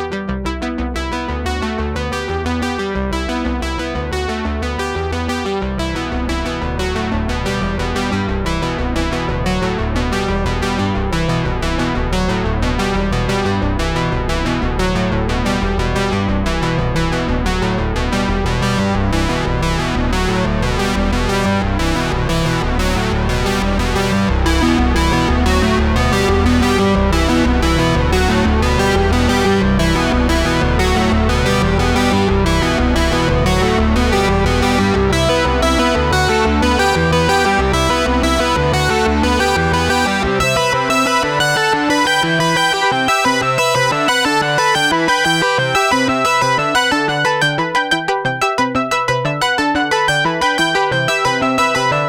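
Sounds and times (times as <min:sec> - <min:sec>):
electronic synthesizer music: 0:03.2 - 0:52.0.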